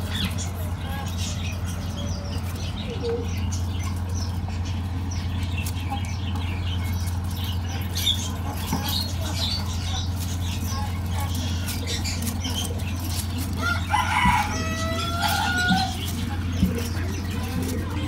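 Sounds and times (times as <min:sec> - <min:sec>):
hamsters scurrying and digging: 0:00.0 - 0:18.0
steady low hum: 0:00.0 - 0:18.0.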